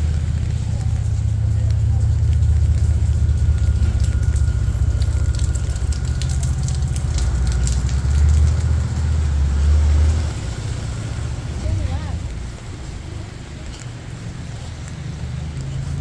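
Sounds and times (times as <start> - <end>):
raindrops ticking: 0.0 - 16.0
traffic engines rumbling: 0.0 - 16.0.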